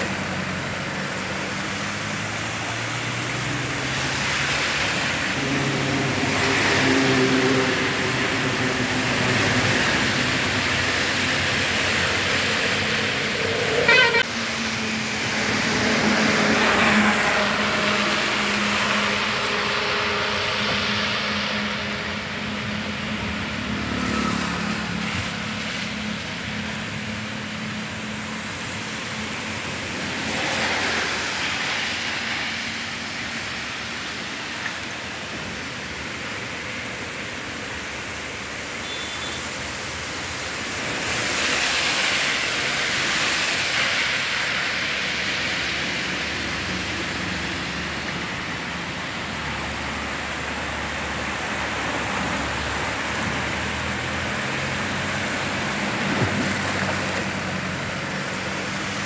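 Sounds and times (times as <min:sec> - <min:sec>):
cars driving through water: 0:00.0 - 0:59.0
heavy rain hissing: 0:00.0 - 0:59.0
running water: 0:00.0 - 0:59.0.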